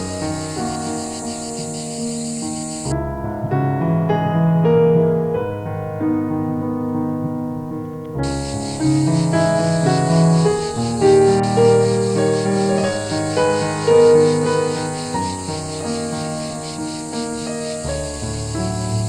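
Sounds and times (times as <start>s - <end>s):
high steady hiss: 0.0s - 3.0s, 6.6s - 19.0s
slow piano music: 0.0s - 19.0s.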